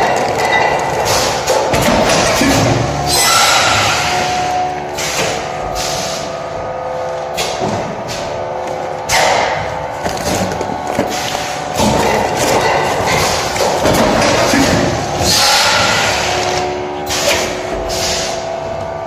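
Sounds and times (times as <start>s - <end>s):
machine clacks and thuds: 0.0s - 5.7s, 7.3s - 18.0s
packaging machine humming: 0.0s - 19.0s.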